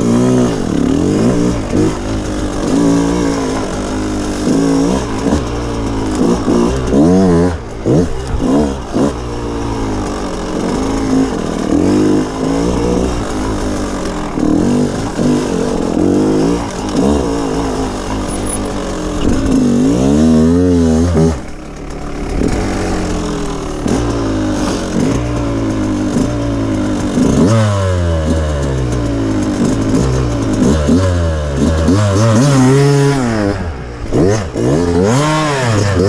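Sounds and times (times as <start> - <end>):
motorbike engine revving: 0.0 - 36.0.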